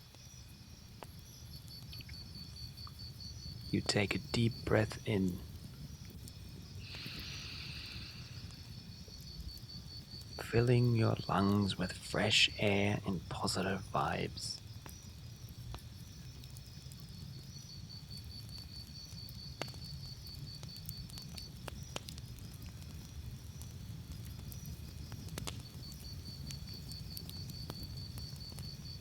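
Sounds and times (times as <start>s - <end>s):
campfire crackling: 0.0s - 29.0s
cricket chirping: 0.0s - 29.0s.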